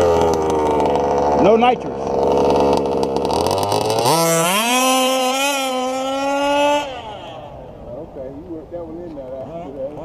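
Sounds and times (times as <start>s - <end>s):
two-stroke engine revving: 0.0s - 7.9s, 9.3s - 10.0s.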